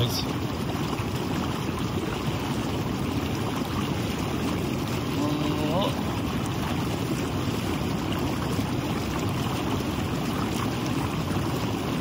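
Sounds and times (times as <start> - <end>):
jacuzzi jets bubbling water: 0.0 - 12.0.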